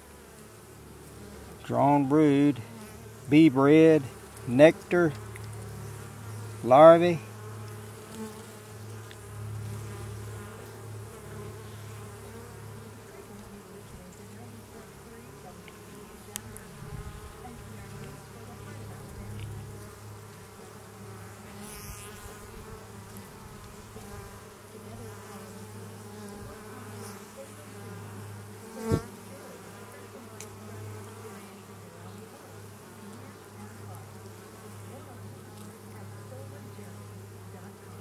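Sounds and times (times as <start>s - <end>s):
honey bees buzzing: 0.0s - 38.0s.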